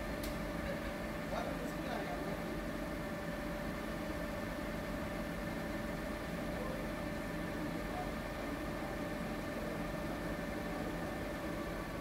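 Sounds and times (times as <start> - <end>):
motor humming and rumbling: 0.0 - 12.0.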